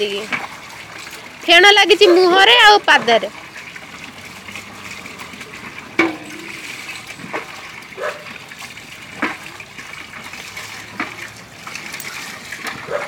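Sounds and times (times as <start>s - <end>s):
running water: 0.0s - 13.0s
water splashing on dog's coat: 0.0s - 13.0s.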